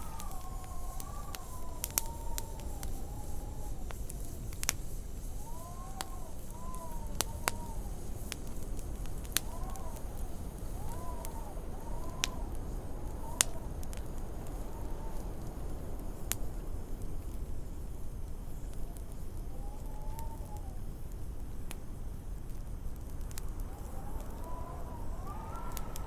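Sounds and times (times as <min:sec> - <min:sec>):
storm wind rumbling: 0:00.0 - 0:18.5, 0:21.8 - 0:26.0
wind whistling: 0:00.0 - 0:26.0
wood fire crackling and popping: 0:00.0 - 0:26.0.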